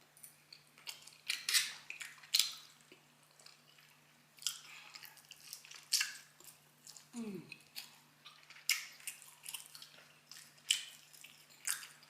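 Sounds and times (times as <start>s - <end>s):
person chewing food: 0.3s - 12.0s.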